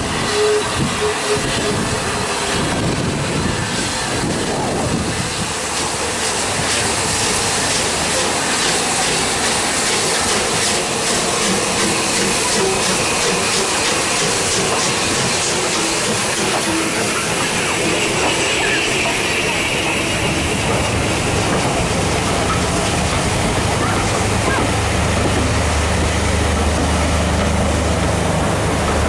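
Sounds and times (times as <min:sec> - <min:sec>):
steam exhaust and hiss: 0:00.0 - 0:29.0
wheels clattering on rails: 0:00.8 - 0:29.0.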